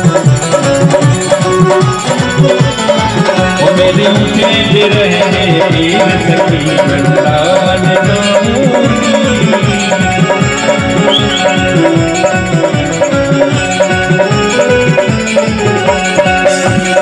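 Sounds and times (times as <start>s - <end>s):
electronic keyboard melody: 0.0s - 17.0s
fast percussion beat: 0.0s - 17.0s.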